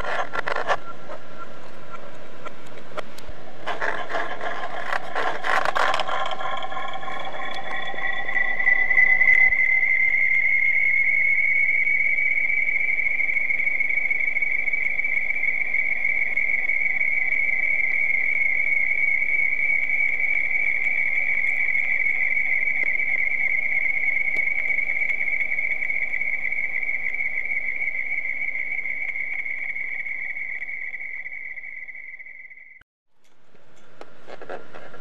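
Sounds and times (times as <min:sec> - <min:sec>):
steady high-pitched tone: 0:00.0 - 0:32.8.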